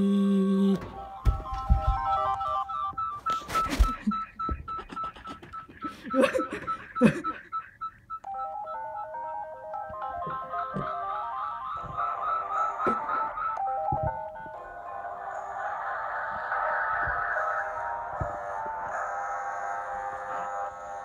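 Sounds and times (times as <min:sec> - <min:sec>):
electronic beeping ringtone: 0:00.9 - 0:21.0.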